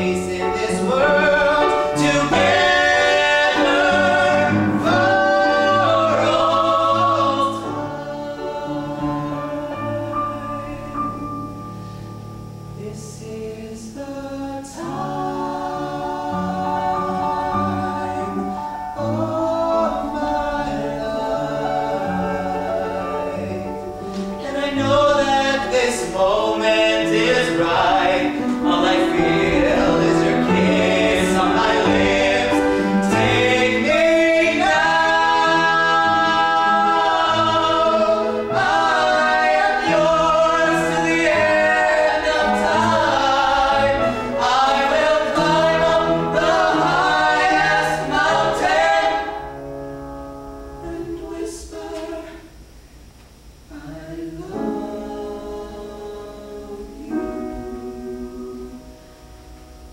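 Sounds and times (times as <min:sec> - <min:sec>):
voices singing in harmony: 0:00.0 - 0:12.0, 0:12.8 - 0:52.8, 0:53.5 - 0:59.9
musical accompaniment: 0:00.0 - 0:53.8, 0:54.4 - 0:59.9.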